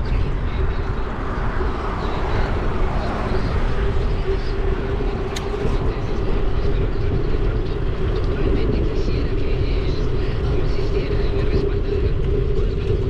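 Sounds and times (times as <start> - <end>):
steady mid-pitched hum: 0.0 - 13.0
wind rumbling on microphone: 0.0 - 13.0.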